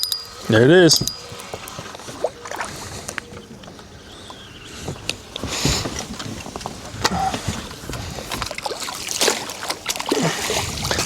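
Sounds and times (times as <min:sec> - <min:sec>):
knocks and clicks in boat: 0:00.0 - 0:11.0.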